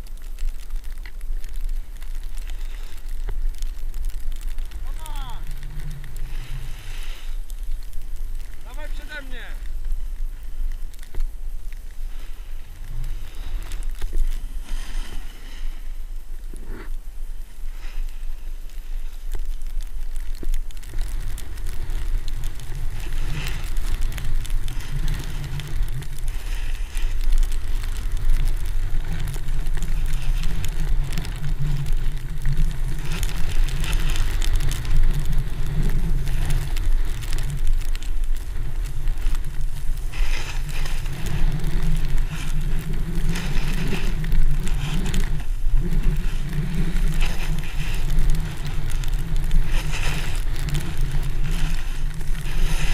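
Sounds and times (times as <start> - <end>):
snowboard scraping over snow: 0.0 - 52.9.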